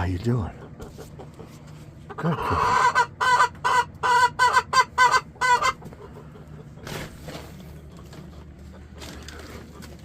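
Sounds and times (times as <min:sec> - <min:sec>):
hen clucking: 0:00.0 - 0:10.0.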